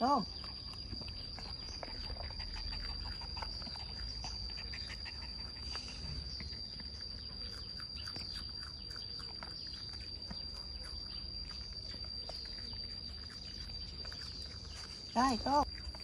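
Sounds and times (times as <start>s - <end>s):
faint chirps: 0.0s - 16.0s
high-pitched insect drone: 0.0s - 16.0s.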